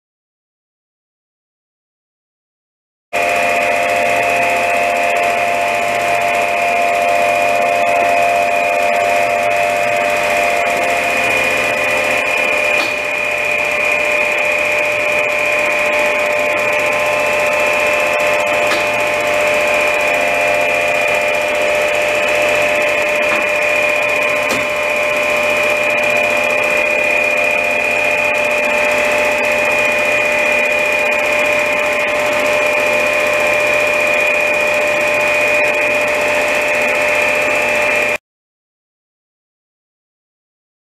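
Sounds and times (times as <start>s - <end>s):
grinder high whine: 3.2s - 38.2s
low motor hum: 3.2s - 38.2s.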